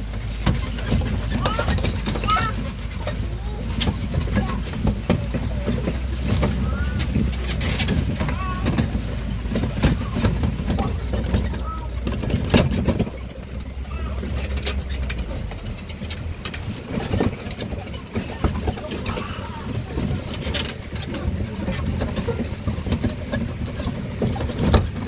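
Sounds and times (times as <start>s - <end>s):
rattles and knocks of cars: 0.0s - 25.0s
train engine rumble: 0.0s - 25.0s.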